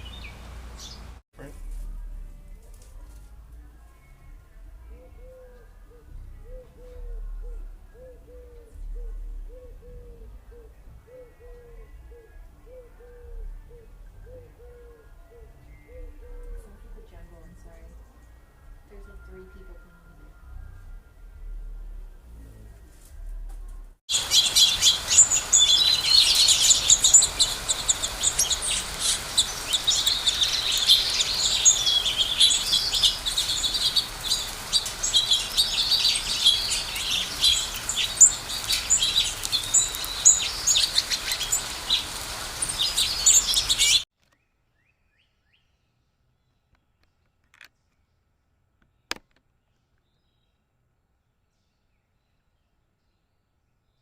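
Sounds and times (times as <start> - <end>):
small birds chirping and trilling: 0.0 - 21.3, 24.1 - 48.2.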